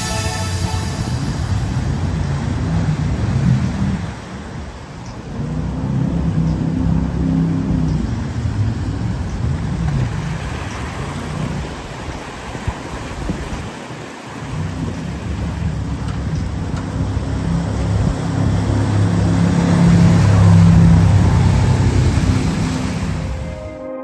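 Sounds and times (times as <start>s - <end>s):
boat engine running hard: 0.0s - 23.6s
spray and rushing water: 0.0s - 23.7s.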